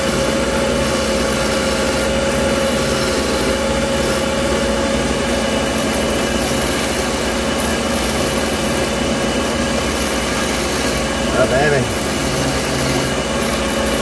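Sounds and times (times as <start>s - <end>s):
ring saw cutting glass: 0.0s - 14.0s.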